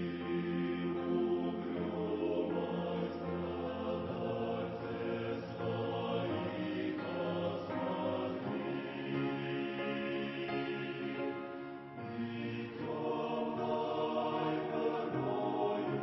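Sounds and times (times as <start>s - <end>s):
choir singing a hymn: 0.0s - 16.0s.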